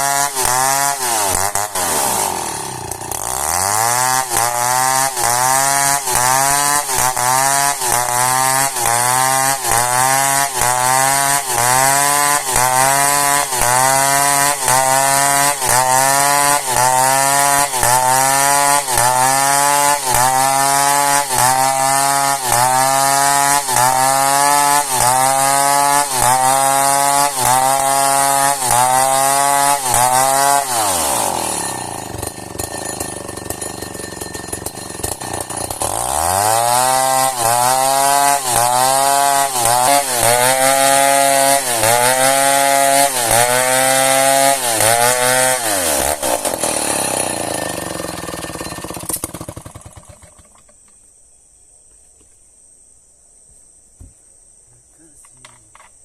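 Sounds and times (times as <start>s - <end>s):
chainsaw cutting log: 0.0s - 50.8s.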